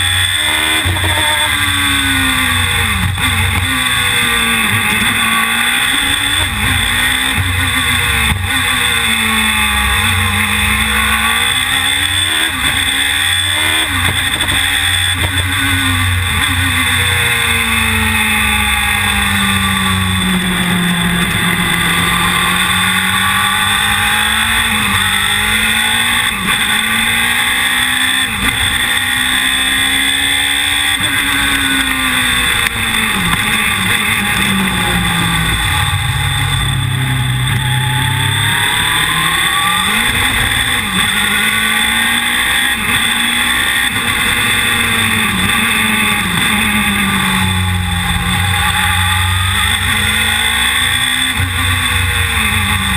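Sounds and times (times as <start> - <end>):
car engine revving through gears: 0.0 - 52.9.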